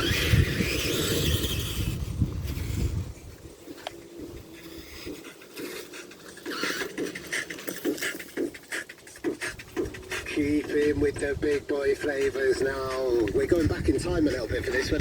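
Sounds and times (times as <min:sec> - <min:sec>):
rapid rhythmic panting breaths: 0:02.6 - 0:15.0.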